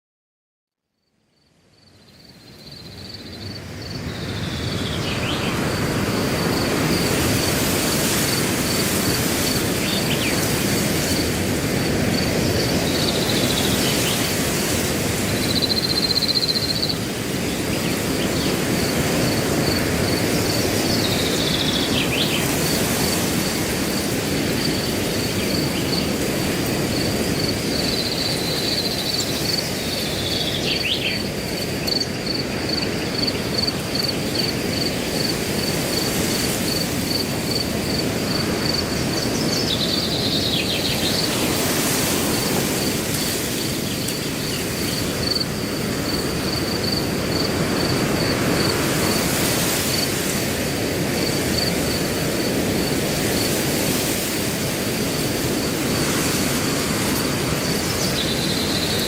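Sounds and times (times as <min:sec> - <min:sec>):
cricket chirping: 0:00.9 - 0:59.0
wind rustling through grass: 0:01.7 - 0:59.0.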